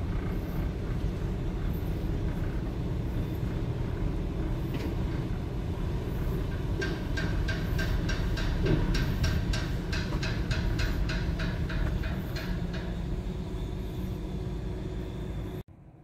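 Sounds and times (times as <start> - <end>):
truck engine rumble: 0.0 - 15.6.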